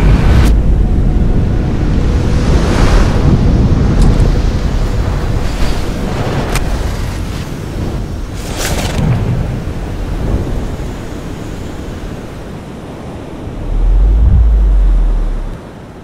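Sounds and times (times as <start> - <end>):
sea surf: 0.0 - 16.0
wind buffeting microphone: 0.0 - 16.0.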